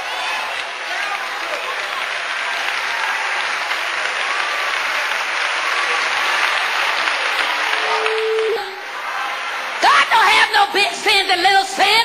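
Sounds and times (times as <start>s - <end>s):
congregation applauding: 0.0s - 10.0s.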